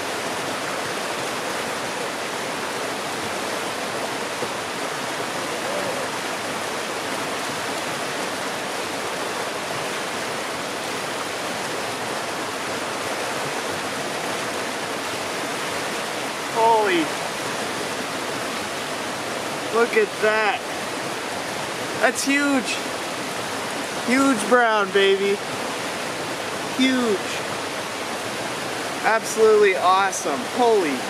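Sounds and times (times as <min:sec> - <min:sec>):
creek rushing over rocks: 0:00.0 - 0:31.0.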